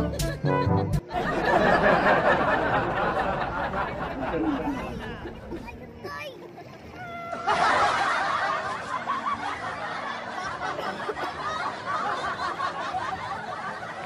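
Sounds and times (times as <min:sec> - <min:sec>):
people laughing: 0:01.1 - 0:14.0.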